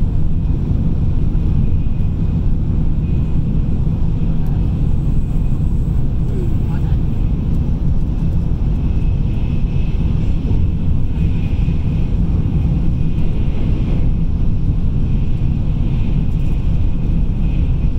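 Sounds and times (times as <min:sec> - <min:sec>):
train running low rumble: 0:00.0 - 0:17.9.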